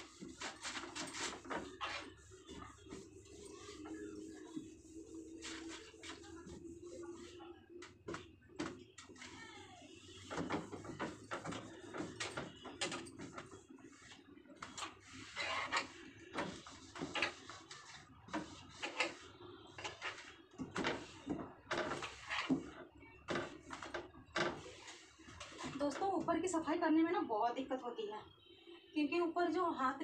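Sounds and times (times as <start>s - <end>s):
cloth scrubbing a shelf: 0.0s - 9.4s, 10.0s - 26.2s.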